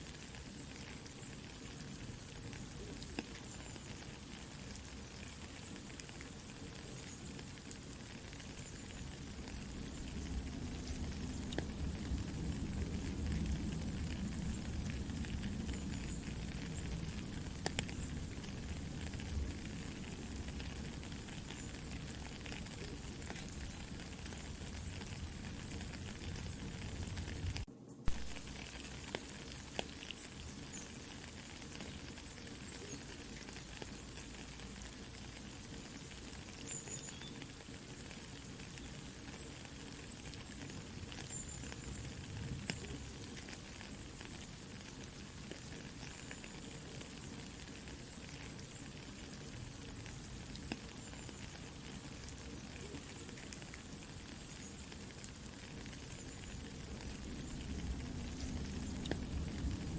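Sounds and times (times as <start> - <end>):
campfire crackling: 0.0 - 59.9
soft steady rain: 0.0 - 59.9.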